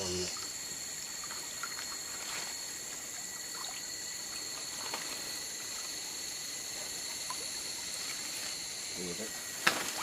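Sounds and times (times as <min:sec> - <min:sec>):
high-pitched insect drone: 0:00.0 - 0:10.0
water trickling: 0:00.0 - 0:10.0.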